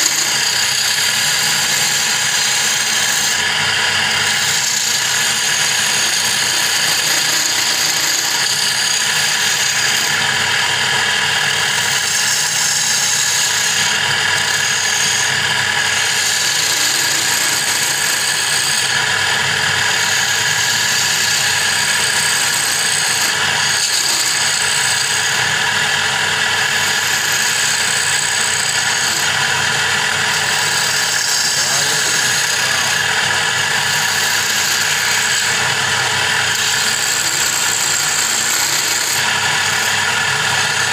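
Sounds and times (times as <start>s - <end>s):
turning tool scraping wood: 0.0s - 40.9s
wood lathe running: 0.0s - 40.9s.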